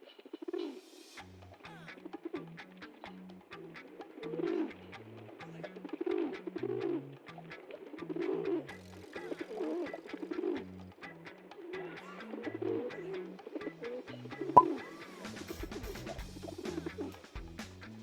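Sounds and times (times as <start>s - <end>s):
pigeon cooing: 0.0s - 15.0s.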